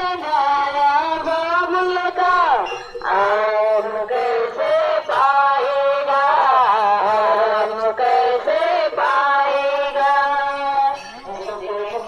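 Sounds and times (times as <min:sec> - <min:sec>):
devotional singing: 0:00.0 - 0:12.0.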